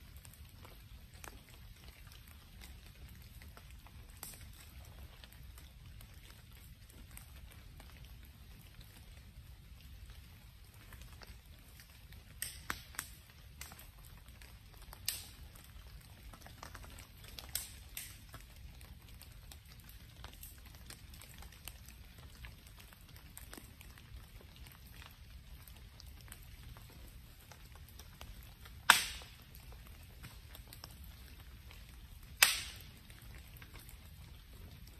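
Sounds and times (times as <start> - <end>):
loud crack of fire: 0.0 - 34.9
wood fire crackling and popping: 0.0 - 34.9.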